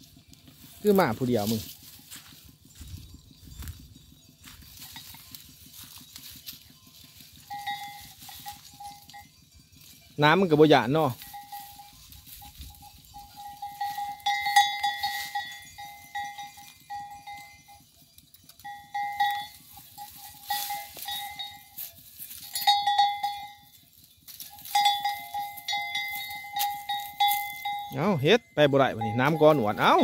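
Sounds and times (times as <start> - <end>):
rustling leaves and twigs: 0.0 - 28.0
goat bell ringing: 0.0 - 30.0.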